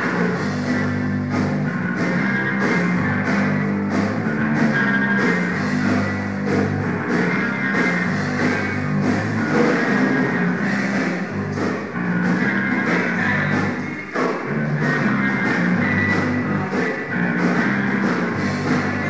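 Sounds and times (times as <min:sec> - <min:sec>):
drum kit beat: 0:00.0 - 0:19.0
electric bass: 0:00.0 - 0:19.0
electric guitar: 0:00.0 - 0:19.0.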